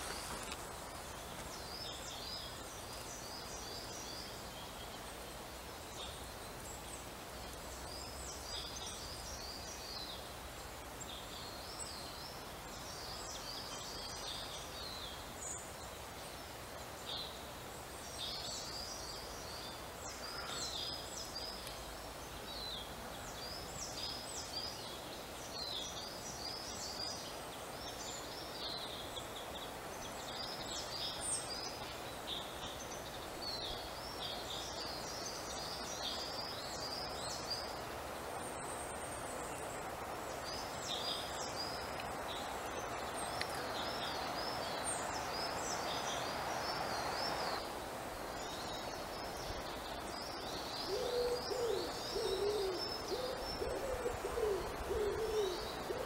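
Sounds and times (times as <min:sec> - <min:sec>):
songbirds calling: 0:00.0 - 0:56.0
steady background hiss: 0:00.0 - 0:56.0.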